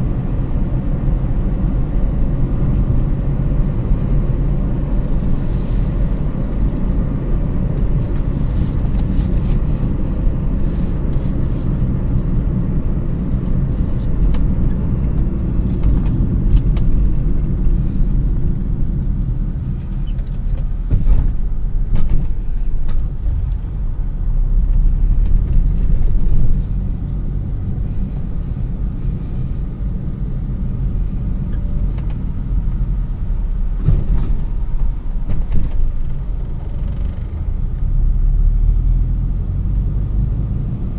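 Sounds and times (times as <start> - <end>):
road vehicles rumbling: 0.0 - 40.9.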